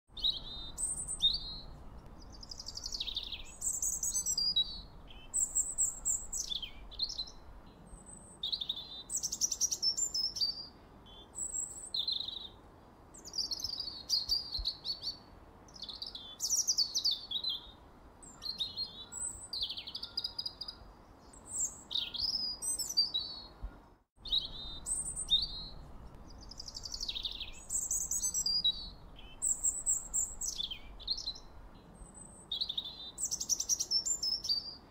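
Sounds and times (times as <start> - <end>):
faint steady hiss: 0.1 - 34.9
songbird singing: 0.1 - 34.9.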